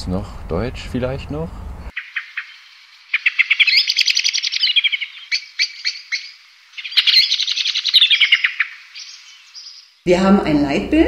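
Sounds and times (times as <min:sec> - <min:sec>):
songbird singing: 0:00.8 - 0:10.7.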